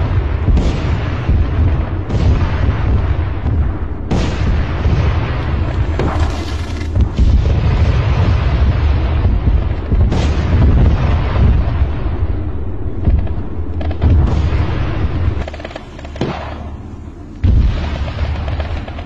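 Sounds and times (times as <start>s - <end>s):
gunfire: 0.0s - 12.2s, 13.0s - 19.0s
explosions: 0.0s - 19.0s
heavy low rumble: 0.0s - 19.0s.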